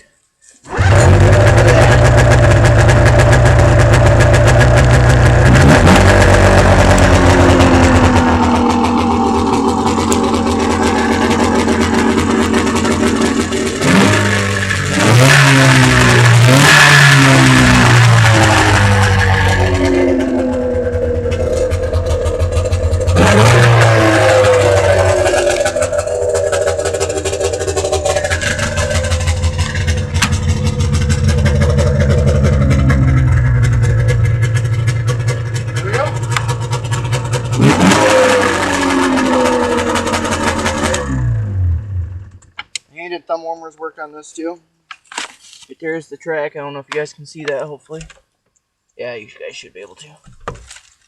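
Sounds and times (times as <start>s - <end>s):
snowmobile engine idling and revving: 0.7s - 42.6s.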